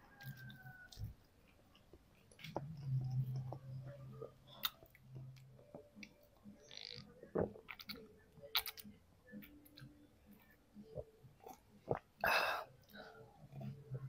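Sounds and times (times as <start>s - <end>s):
low steady hum: 0.0s - 14.0s
mouth chewing clicks and smacks: 0.2s - 3.9s, 4.5s - 13.8s.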